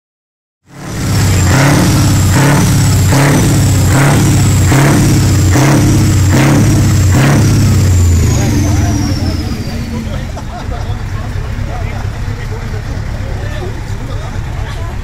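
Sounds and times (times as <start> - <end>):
diesel engine surging: 0.7 - 15.0.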